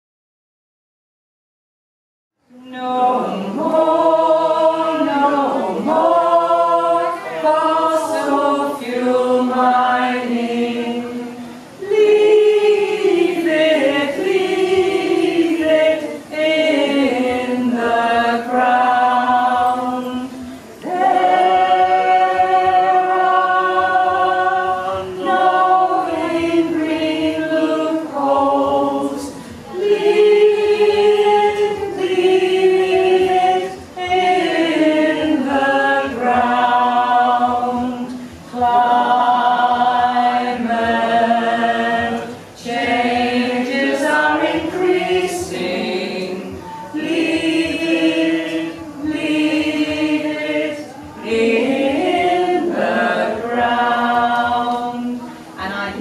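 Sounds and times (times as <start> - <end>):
group singing a cappella: 2.5 - 56.0.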